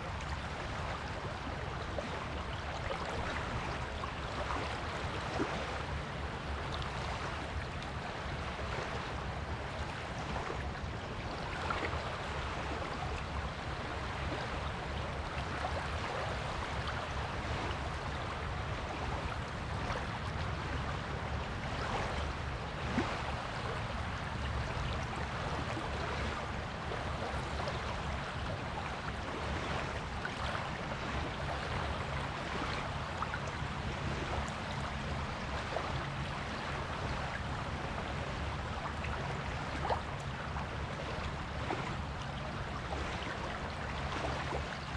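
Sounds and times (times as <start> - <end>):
waves washing on a beach: 0.0 - 44.9.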